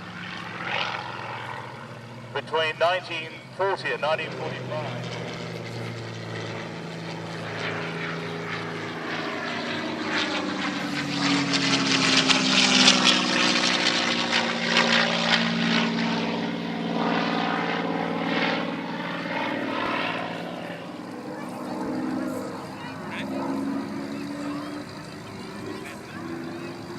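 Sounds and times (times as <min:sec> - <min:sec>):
propeller aircraft passing overhead: 0:00.0 - 0:26.9.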